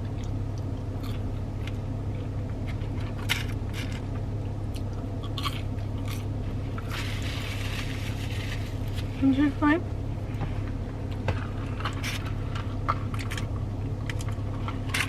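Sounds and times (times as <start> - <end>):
chewing and crunching: 0.0 - 9.2, 11.0 - 15.0
steady low hum: 0.0 - 15.0.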